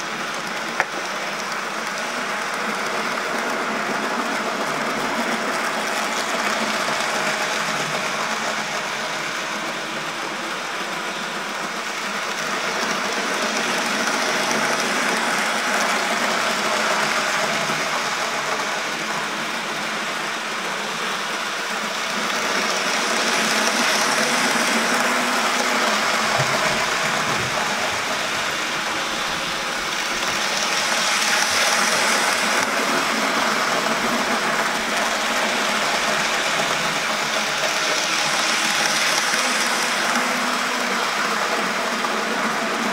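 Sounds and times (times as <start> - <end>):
model train motors whirring: 0.0 - 42.9
wheels rattling on rails: 0.0 - 42.9.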